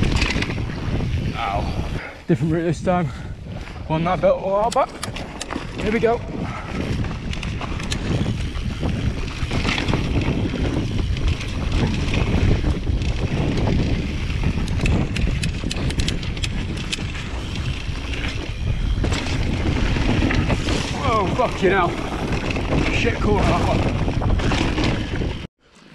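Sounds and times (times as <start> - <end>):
bike clicks and rattles: 0.0 - 2.0, 3.4 - 25.9
wind buffeting microphone: 0.0 - 25.5
tyres rumbling on dirt: 3.6 - 25.5.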